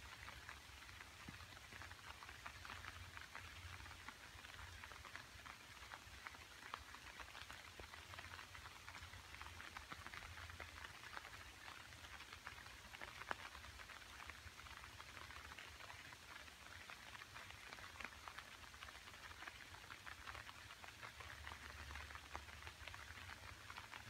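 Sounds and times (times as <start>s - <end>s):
light rain pattering on leaves: 0.0s - 24.0s.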